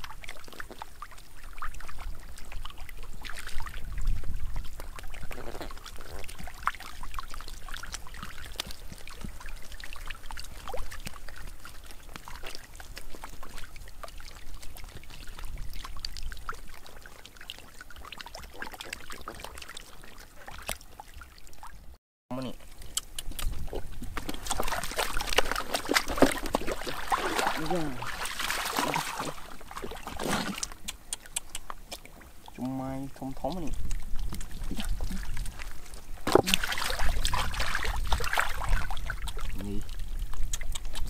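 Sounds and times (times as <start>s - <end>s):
fish splashing in water: 0.0s - 22.0s, 22.7s - 32.6s, 33.4s - 41.0s.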